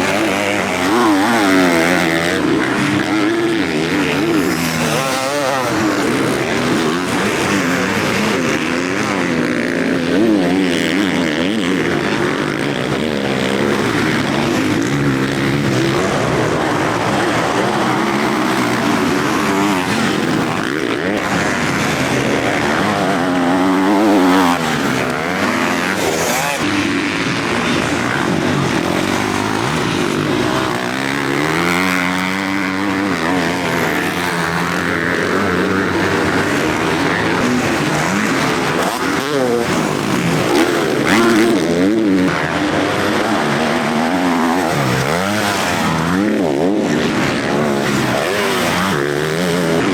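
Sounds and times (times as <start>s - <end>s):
motocross bike engines revving: 0.0s - 49.9s.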